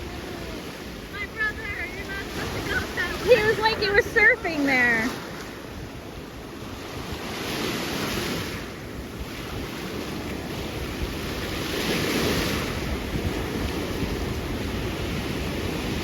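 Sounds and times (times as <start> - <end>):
surf breaking on shore: 0.0 - 16.0
wind buffeting microphone: 0.0 - 16.0.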